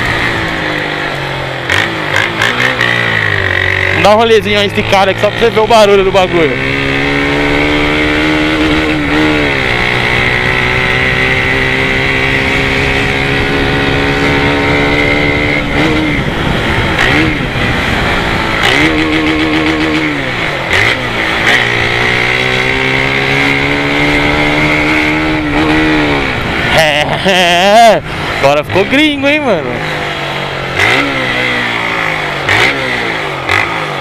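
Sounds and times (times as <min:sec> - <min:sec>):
motorcycle engine at speed: 0:00.0 - 0:34.0.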